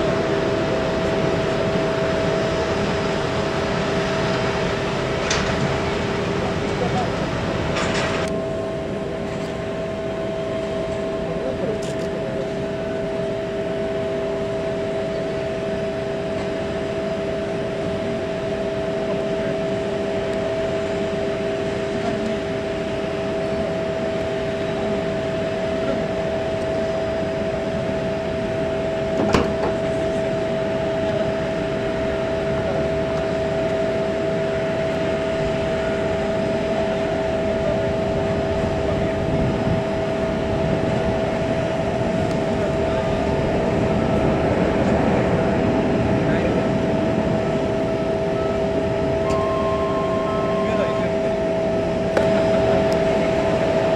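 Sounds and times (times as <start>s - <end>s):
rushing machine hum: 0.0s - 53.9s
whining machine tones: 0.0s - 53.9s.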